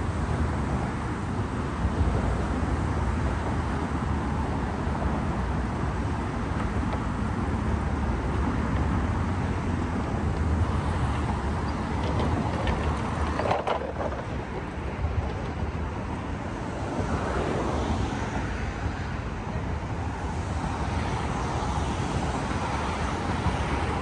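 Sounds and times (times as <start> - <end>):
traffic rumble and hiss: 0.0 - 24.0.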